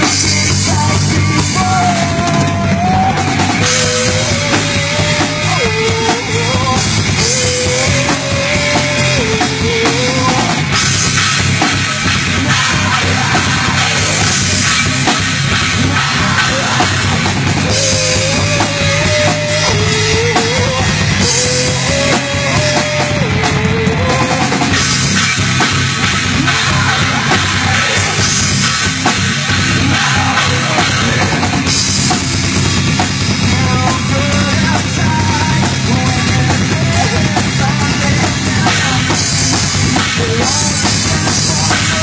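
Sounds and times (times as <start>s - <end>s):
live rock band playing: 0.0s - 42.0s
melody line above band: 0.0s - 42.0s.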